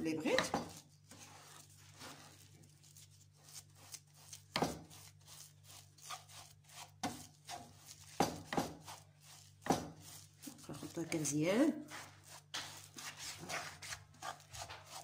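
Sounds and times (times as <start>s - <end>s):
utensil scraping dough in a pan: 0.0s - 15.0s.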